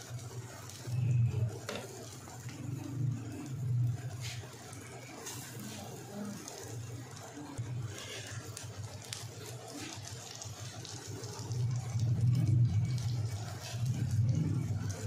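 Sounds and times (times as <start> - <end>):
kababs sizzling in pan: 0.0 - 15.0.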